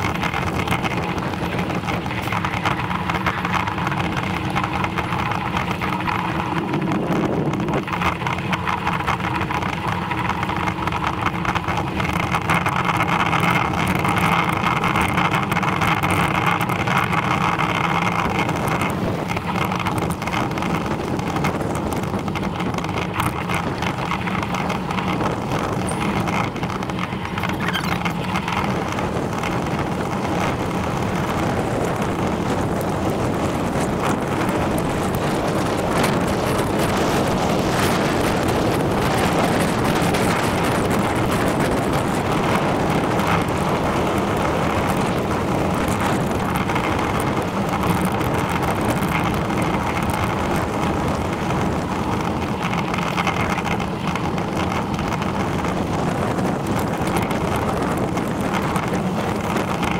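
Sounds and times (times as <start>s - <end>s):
tyres rolling on tarmac: 0.0s - 59.9s
wind rushing over microphone: 0.0s - 59.9s.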